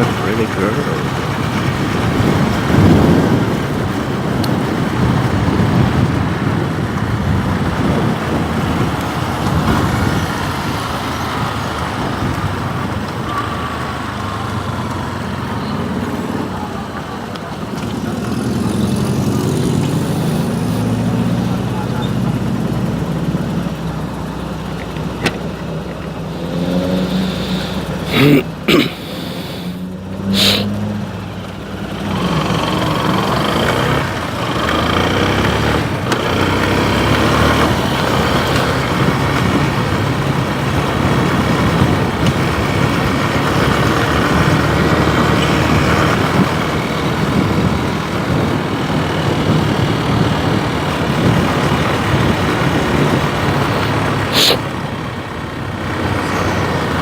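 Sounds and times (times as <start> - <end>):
wind noise while riding: 0.0 - 28.6, 29.2 - 57.0
motorcycle engine running: 0.0 - 57.0.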